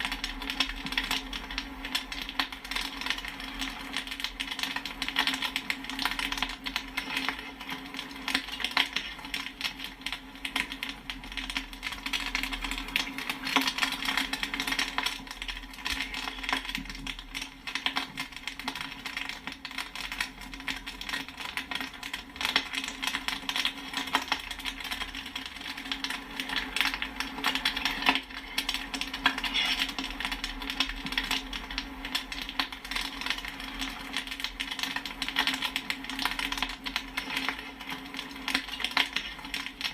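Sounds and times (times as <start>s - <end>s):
popcorn popping: 0.0s - 39.9s.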